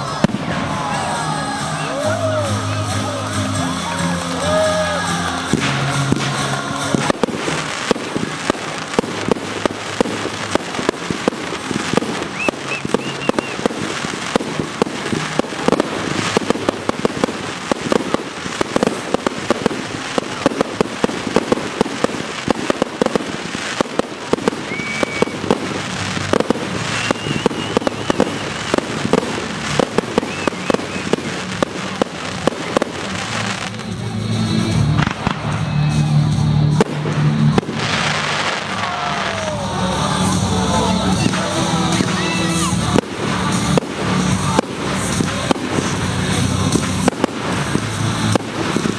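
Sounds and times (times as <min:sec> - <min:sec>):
fireworks crackling and popping: 0:00.0 - 0:48.9.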